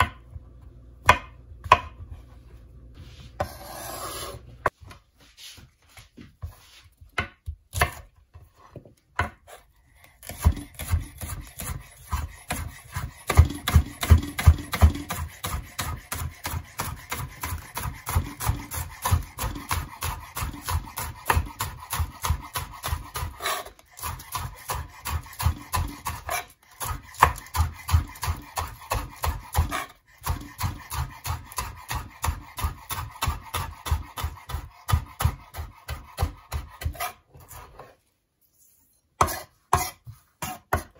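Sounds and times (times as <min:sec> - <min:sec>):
knife chopping on cutting board: 0:01.0 - 0:02.2, 0:03.4 - 0:04.4, 0:06.4 - 0:37.9, 0:39.2 - 0:40.9.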